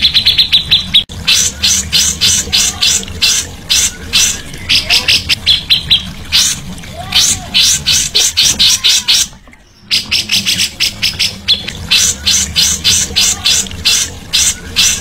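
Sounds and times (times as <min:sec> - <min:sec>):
low steady hum: 0:00.0 - 0:15.0
songbird harsh calls: 0:00.0 - 0:15.0.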